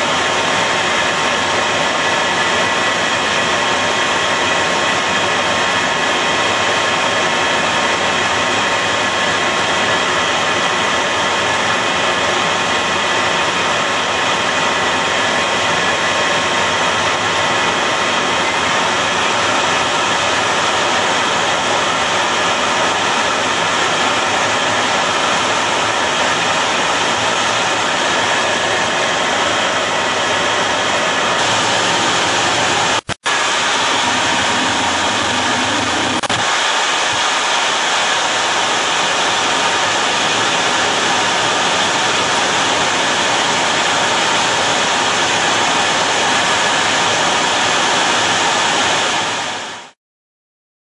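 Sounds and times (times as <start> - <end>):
jet engines rushing with whine: 0.0 - 50.0.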